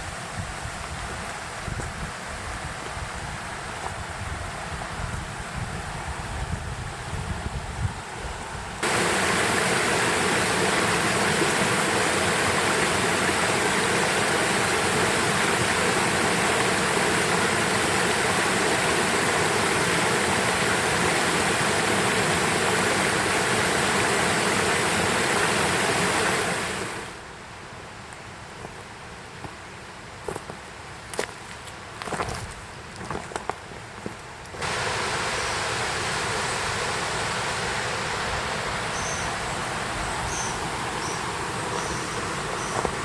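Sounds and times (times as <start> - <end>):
rushing stream water: 0.0 - 43.0.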